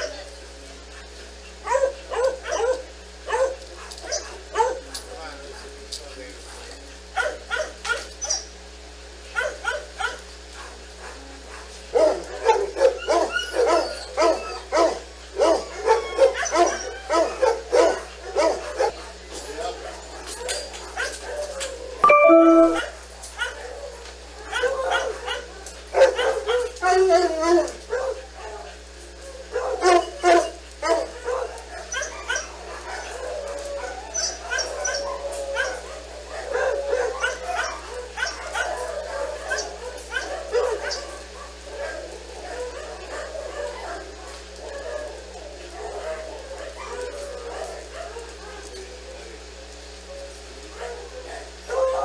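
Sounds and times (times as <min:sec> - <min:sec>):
dogs barking: 0:00.0 - 0:00.3, 0:00.9 - 0:08.6, 0:09.2 - 0:21.8, 0:22.5 - 0:52.0.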